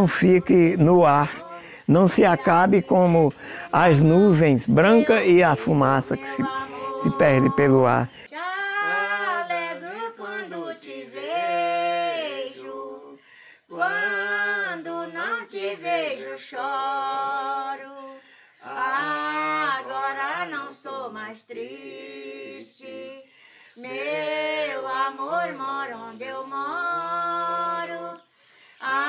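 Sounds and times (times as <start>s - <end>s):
woman and man singing folk song: 0.0s - 29.0s.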